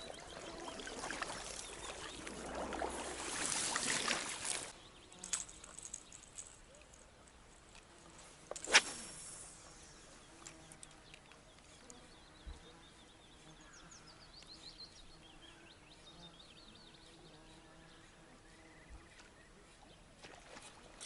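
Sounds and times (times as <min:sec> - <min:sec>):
songbird chirping: 0:00.0 - 0:08.0, 0:09.6 - 0:21.0.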